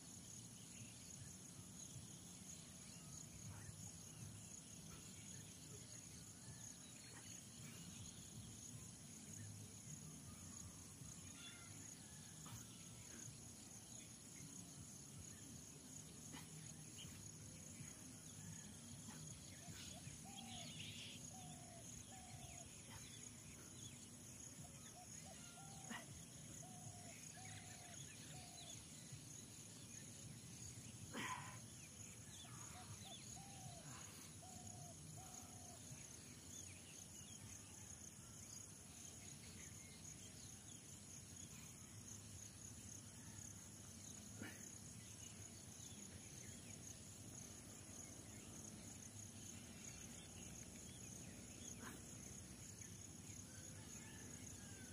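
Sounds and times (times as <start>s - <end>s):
insects trilling: 2.9s - 54.9s.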